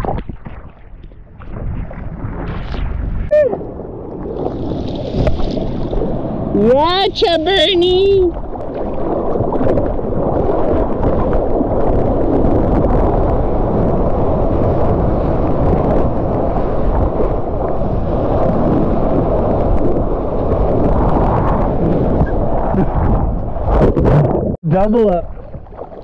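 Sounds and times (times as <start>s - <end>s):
water rushing past hull: 0.0s - 26.0s
wind buffeting microphone: 0.0s - 26.0s.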